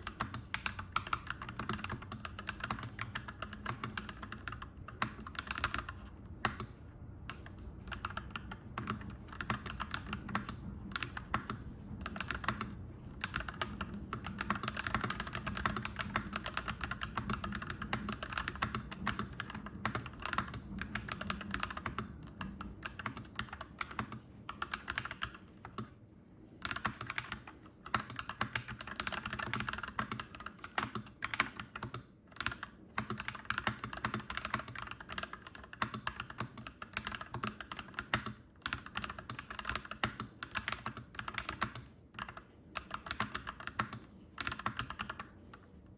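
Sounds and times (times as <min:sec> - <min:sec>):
mechanical keyboard typing: 0:00.0 - 0:45.9.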